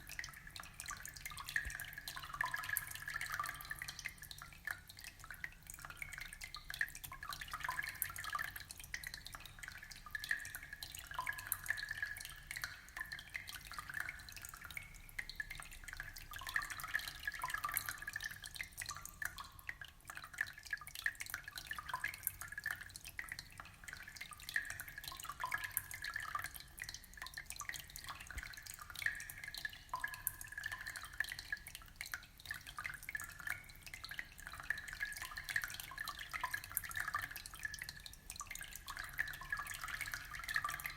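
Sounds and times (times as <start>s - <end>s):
water trickling and dripping: 0.0s - 40.9s.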